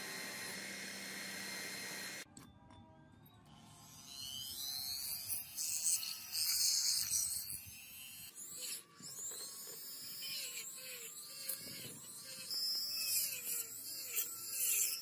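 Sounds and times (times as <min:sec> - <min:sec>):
rotary tool whining on metal: 0:00.0 - 0:02.3, 0:03.5 - 0:15.0.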